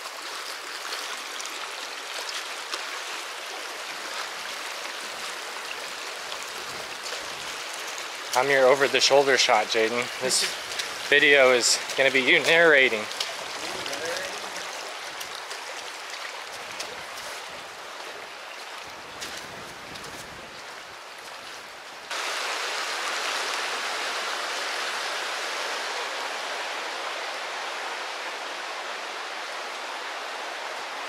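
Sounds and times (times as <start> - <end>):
creek water rushing over rocks: 0.0 - 31.0.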